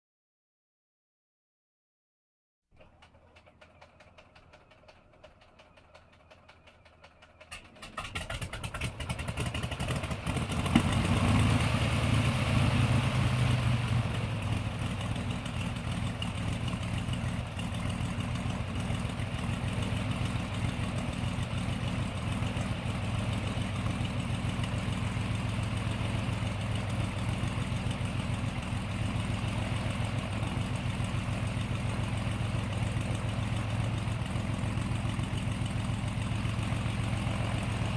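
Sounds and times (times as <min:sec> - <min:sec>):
propeller plane engine running: 0:02.8 - 0:37.9.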